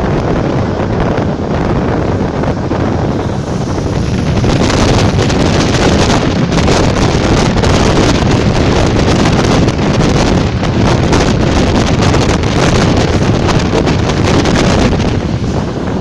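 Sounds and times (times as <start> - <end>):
train running at speed: 0.0 - 16.0
wind buffeting microphone: 0.0 - 16.0.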